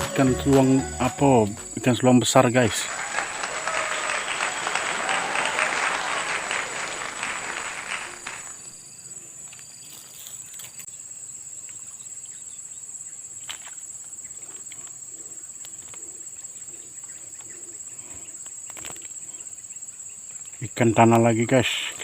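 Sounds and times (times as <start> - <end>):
insect chorus trilling: 0.2 - 22.0.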